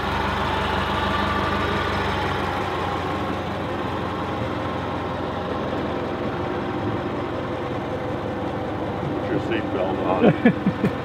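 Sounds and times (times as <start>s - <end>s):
old engine running steadily: 0.0s - 11.0s.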